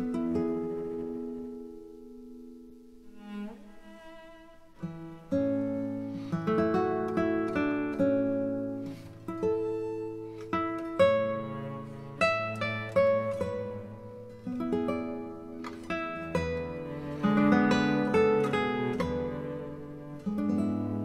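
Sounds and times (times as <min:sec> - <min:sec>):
acoustic guitar picking: 0:00.0 - 0:04.1, 0:04.7 - 0:21.0.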